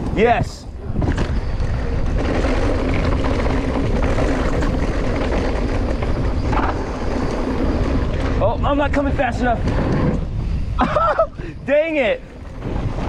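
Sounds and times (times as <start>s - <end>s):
tyres rumbling over dirt: 0.0s - 13.0s
wind buffeting microphone: 0.0s - 13.0s.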